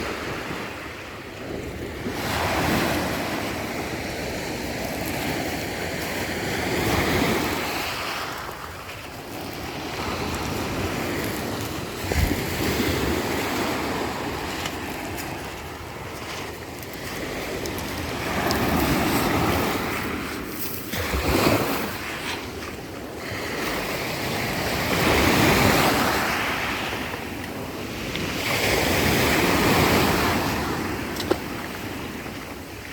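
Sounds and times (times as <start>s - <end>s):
waves breaking on shore: 0.0s - 32.9s
wind buffeting microphone: 0.0s - 32.9s.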